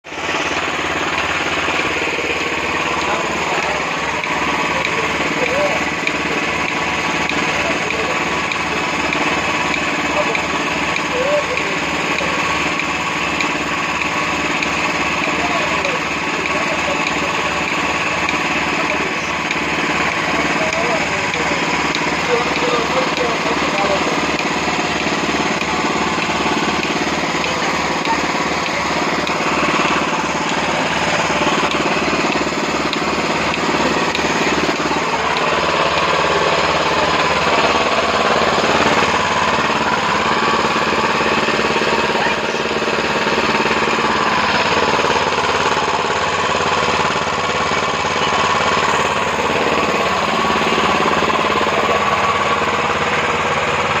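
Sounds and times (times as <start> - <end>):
petrol engine running: 0.0 - 54.0.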